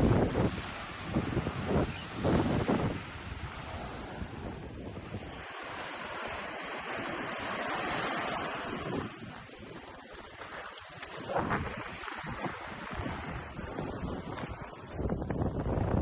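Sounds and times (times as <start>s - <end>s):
ocean surf on beach: 0.0s - 16.0s
wind rumble on microphone: 0.0s - 16.0s.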